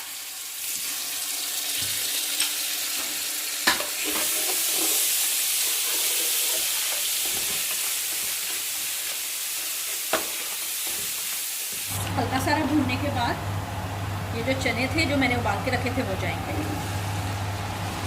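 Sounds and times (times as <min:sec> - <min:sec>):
food sizzling in hot oil: 0:00.0 - 0:14.3, 0:15.3 - 0:18.0.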